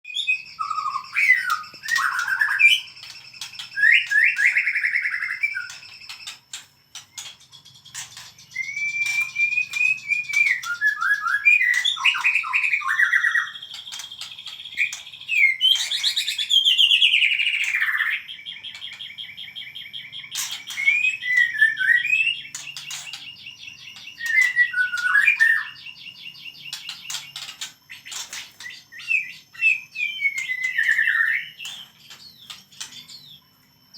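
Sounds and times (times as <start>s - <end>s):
songbird singing whistled phrases: 0.0s - 33.9s.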